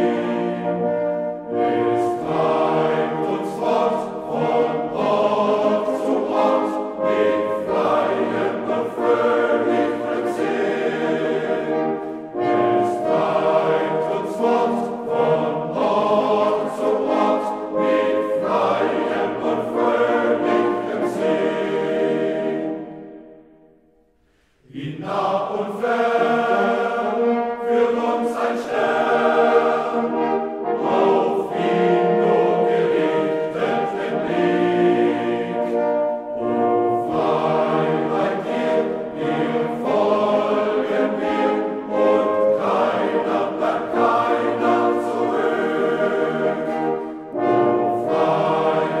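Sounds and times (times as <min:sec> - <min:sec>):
men's choir singing: 0:00.0 - 0:23.4, 0:24.6 - 0:49.0
french horns playing chords: 0:00.0 - 0:23.5, 0:24.7 - 0:49.0.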